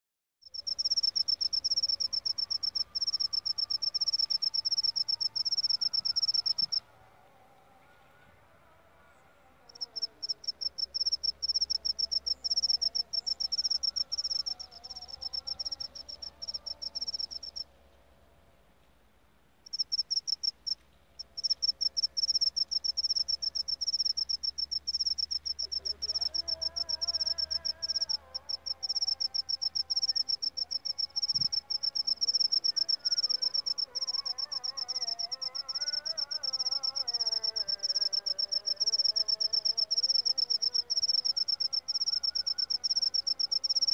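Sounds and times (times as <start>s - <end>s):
cricket chirping trill: 0.5s - 6.9s, 9.7s - 17.7s, 19.7s - 43.9s.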